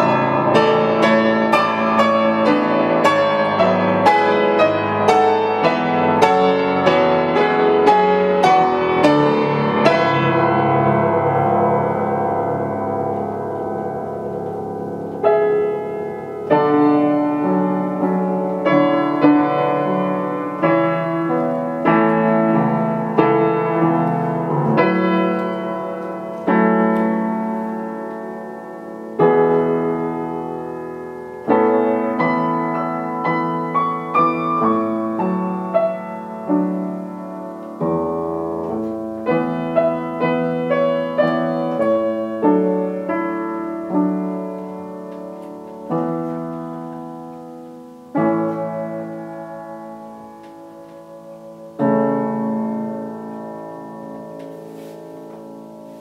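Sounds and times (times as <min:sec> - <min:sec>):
solo piano chords: 0:00.0 - 0:56.0.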